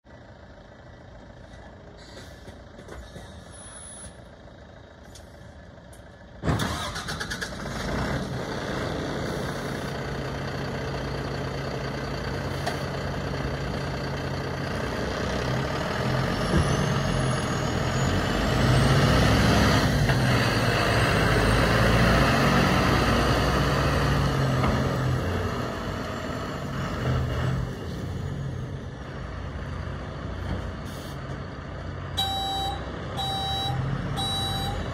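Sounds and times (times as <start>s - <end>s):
diesel truck engine starting and idling: 0.1s - 34.9s.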